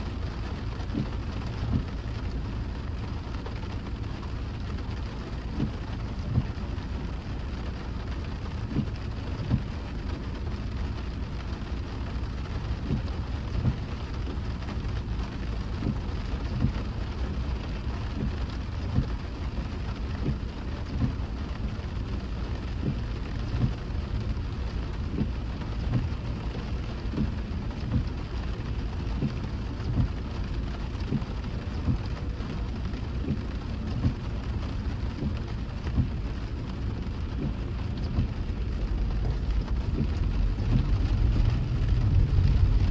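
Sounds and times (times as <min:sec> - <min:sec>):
rain hissing: 0:00.0 - 0:42.9
road rumble: 0:00.0 - 0:42.9.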